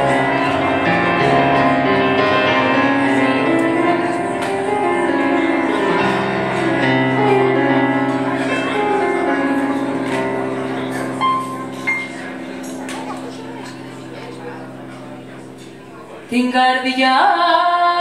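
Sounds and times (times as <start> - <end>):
solo piano chords and melody: 0.0 - 16.3.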